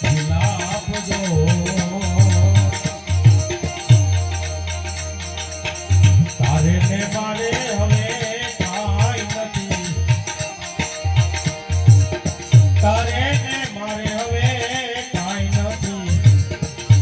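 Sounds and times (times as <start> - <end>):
jangling rattle percussion: 0.0 - 17.0.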